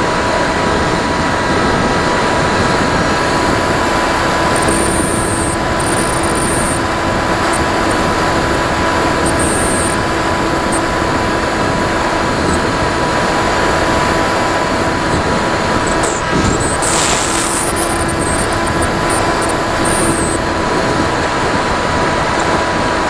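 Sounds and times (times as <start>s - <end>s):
motor and propeller whine: 0.0s - 23.0s.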